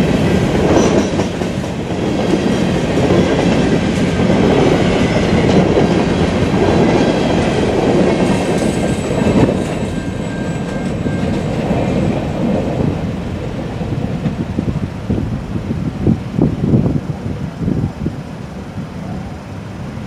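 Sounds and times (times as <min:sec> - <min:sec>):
train wheels rumbling and clattering: 0:00.0 - 0:20.0.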